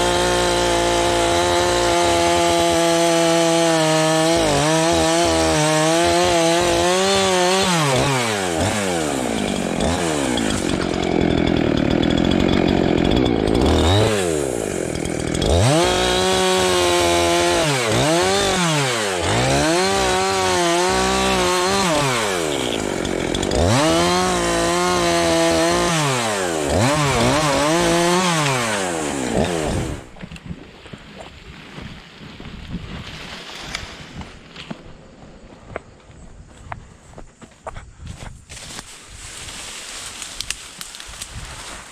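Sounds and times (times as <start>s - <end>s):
chainsaw cutting brush: 0.0s - 30.2s, 31.6s - 35.4s, 38.4s - 41.9s.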